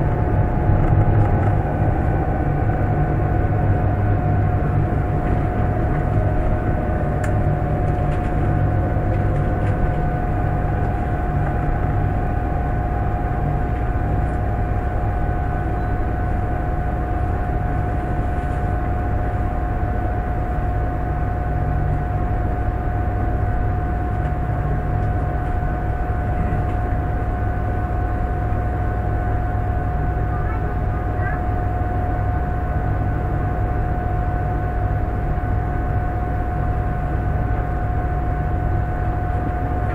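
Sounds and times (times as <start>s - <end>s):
train high whine: 0.0s - 39.9s
train low rumble: 0.0s - 39.9s.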